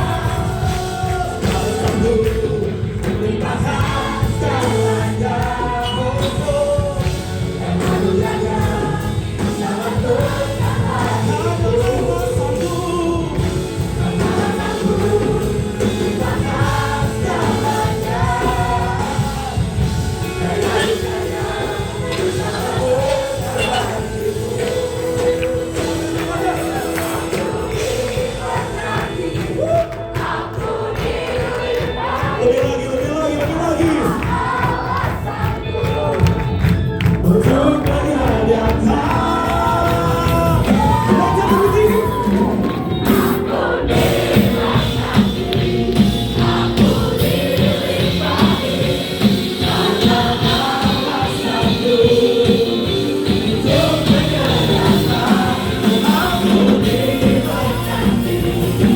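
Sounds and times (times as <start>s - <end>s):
band with steady beat: 0.0s - 58.9s
group singing praise song: 0.0s - 58.9s.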